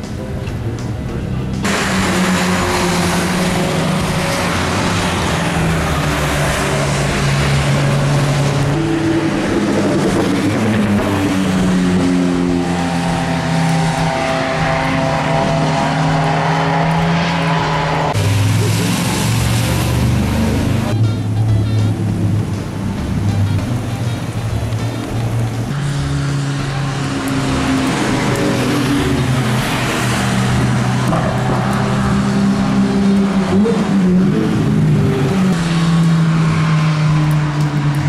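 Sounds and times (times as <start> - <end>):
racing car engines at full throttle: 0.0 - 38.0
tyres hissing on wet track: 1.6 - 9.6, 11.1 - 20.8, 25.2 - 38.0.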